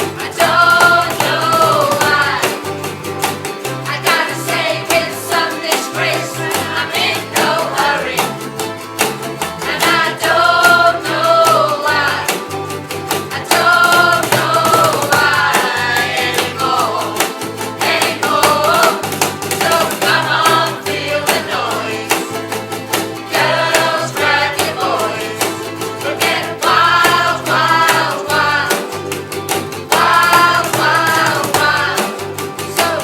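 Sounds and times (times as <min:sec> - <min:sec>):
repeating bass line: 0:00.0 - 0:33.0
steady beat: 0:00.0 - 0:33.0.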